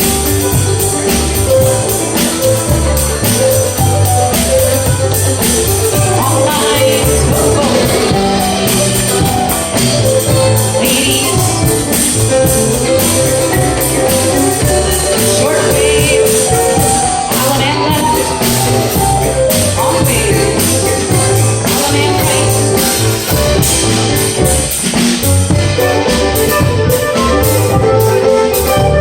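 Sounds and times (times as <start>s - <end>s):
fiddle melody: 0.0s - 29.0s
keyboard: 0.0s - 29.0s
mandolin: 0.0s - 29.0s
percussion: 0.0s - 29.0s
steady bass beat: 0.0s - 29.0s.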